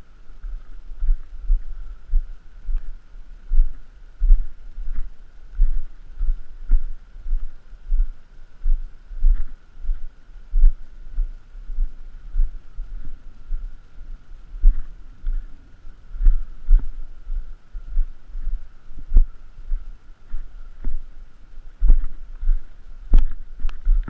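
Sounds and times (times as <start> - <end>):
faint steady high tone: 0.0 - 24.0
footsteps on a trail: 0.0 - 24.0.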